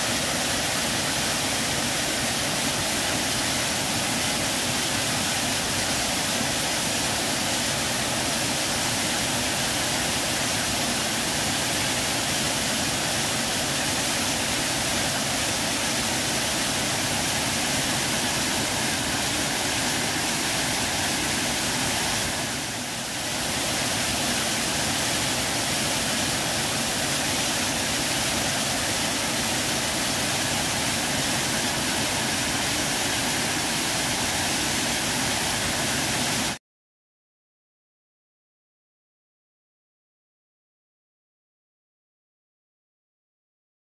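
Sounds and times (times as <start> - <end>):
waterfall rushing: 0.0 - 36.6.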